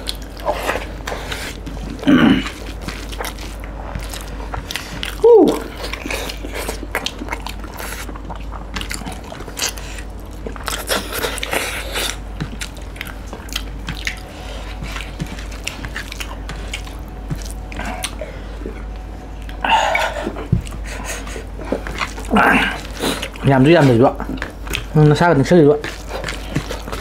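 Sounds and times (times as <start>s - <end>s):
hands mixing food: 0.0s - 27.0s
wet chewing and lip smacking: 0.0s - 27.0s.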